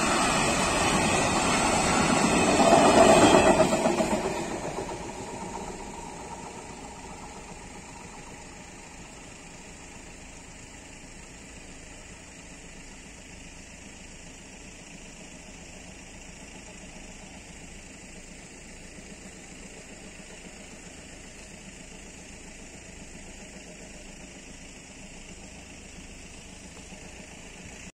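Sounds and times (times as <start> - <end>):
vehicle engines idling: 0.0 - 27.9.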